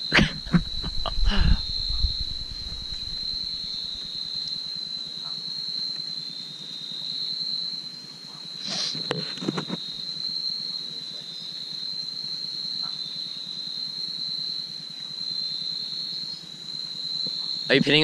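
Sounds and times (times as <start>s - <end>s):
insect high-pitched trill: 0.0s - 18.0s.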